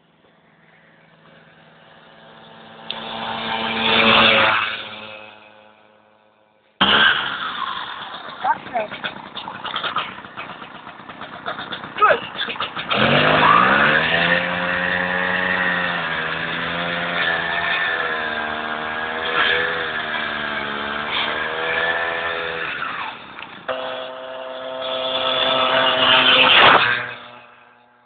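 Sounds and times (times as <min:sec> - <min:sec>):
two-stroke moped engine revving: 0:00.5 - 0:06.2, 0:06.8 - 0:28.0.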